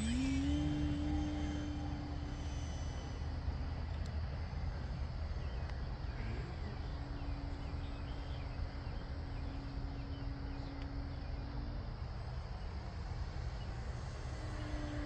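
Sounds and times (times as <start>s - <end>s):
distant model plane motor drone: 0.0s - 15.0s
wind rumbling on microphone: 0.0s - 15.0s.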